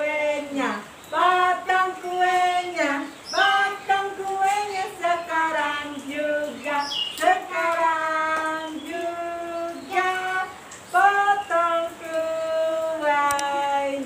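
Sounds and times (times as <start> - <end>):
woman and child singing: 0.0 - 14.0.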